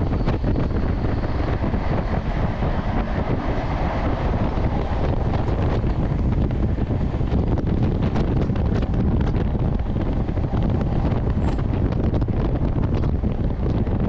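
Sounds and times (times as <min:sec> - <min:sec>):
train running rumble: 0:00.0 - 0:14.0
wind buffeting microphone: 0:00.0 - 0:14.0.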